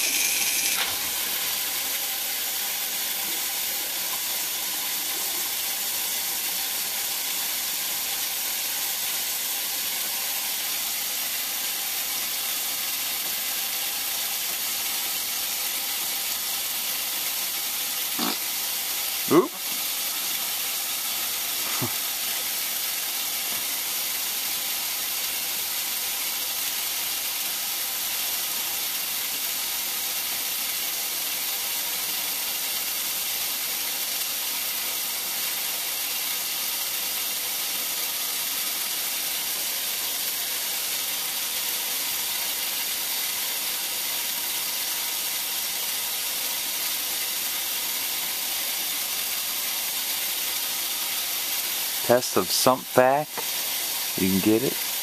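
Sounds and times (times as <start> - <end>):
rushing water hiss: 0.0 - 55.0.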